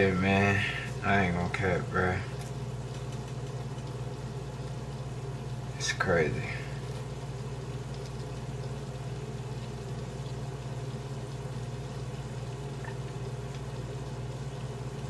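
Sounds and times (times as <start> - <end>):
steady low hum: 0.0 - 15.0
bacon sizzling in a pan: 2.3 - 15.0.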